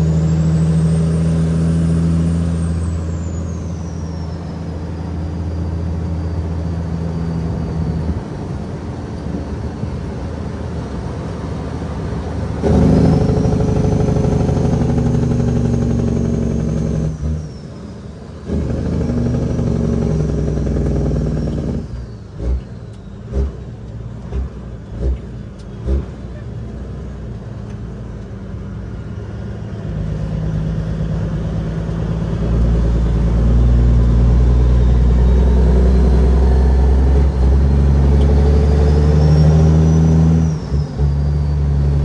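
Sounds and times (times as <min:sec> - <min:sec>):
truck diesel engine under load: 0:00.0 - 0:42.0.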